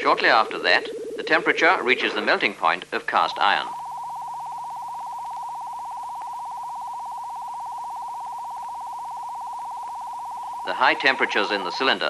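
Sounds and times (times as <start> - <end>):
fluttering electronic beep tone: 0.0 - 12.0.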